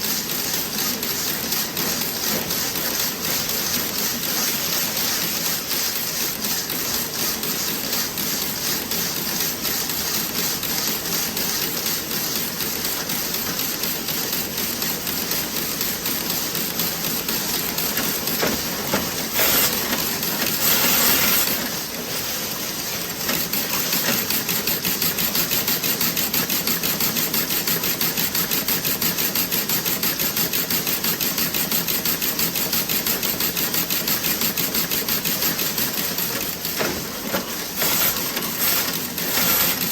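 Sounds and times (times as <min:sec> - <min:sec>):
knitting machine clicking and rattling: 0:00.0 - 0:39.9.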